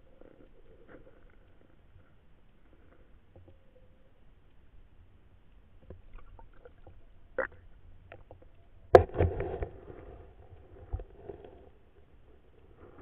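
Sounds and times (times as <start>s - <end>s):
faint underwater clicks and ticks: 0.0s - 13.0s.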